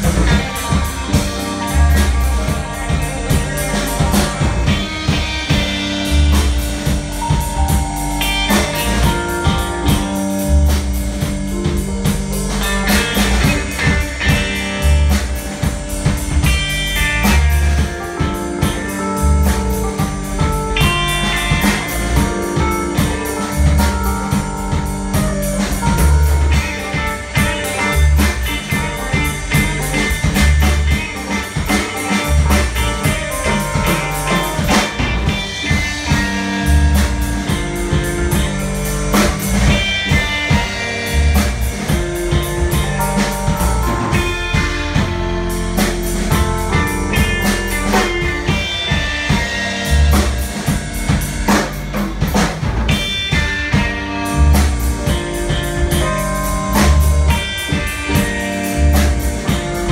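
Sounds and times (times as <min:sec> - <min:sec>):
drum kit beat: 0:00.0 - 0:59.9
guitar: 0:00.0 - 0:59.9
live band playing: 0:00.0 - 0:59.9.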